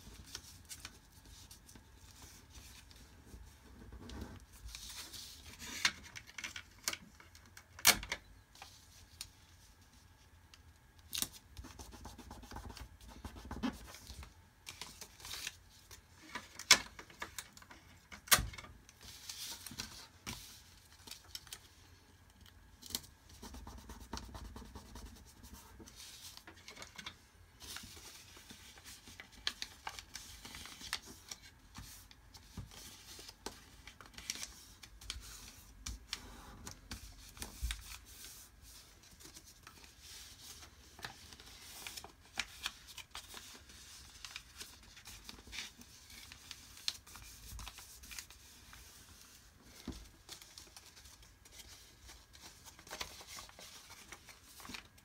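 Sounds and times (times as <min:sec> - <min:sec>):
paper being folded: 0:00.0 - 0:07.5, 0:11.1 - 0:18.1, 0:18.9 - 0:55.0.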